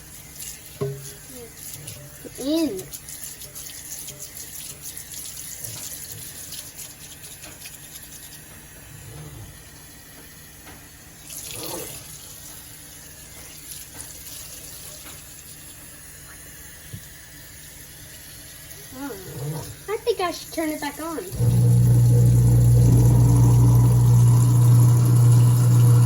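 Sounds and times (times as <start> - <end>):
faucet water running into sink: 0.0 - 26.0.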